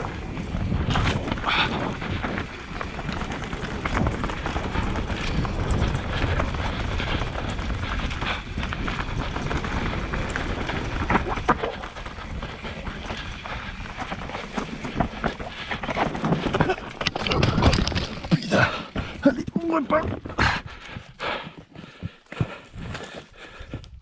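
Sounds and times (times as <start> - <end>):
bike rattling over roots: 0.0 - 20.6
bike tyres rumbling on dirt: 0.0 - 23.8.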